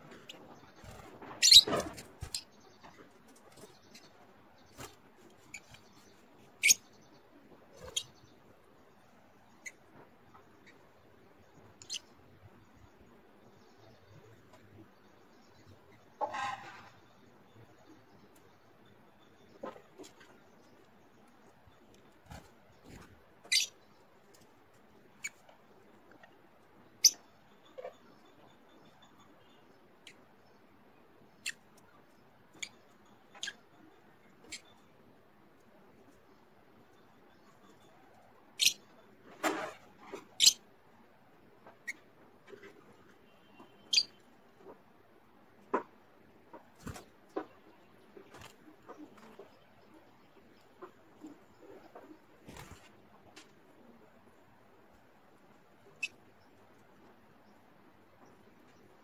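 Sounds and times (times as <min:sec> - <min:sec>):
lovebirds chirping: 0:00.0 - 0:59.0.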